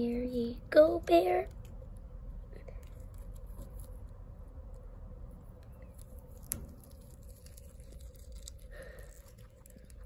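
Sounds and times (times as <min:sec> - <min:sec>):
guinea pig chewing leaves: 0:00.0 - 0:10.0.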